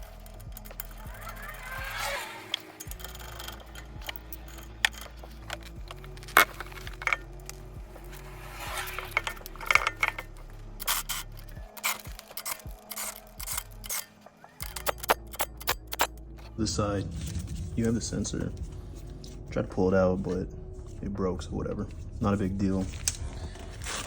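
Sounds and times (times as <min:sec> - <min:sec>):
metallic clicks and scrapes: 0:00.0 - 0:21.1
faint background music: 0:00.0 - 0:24.0.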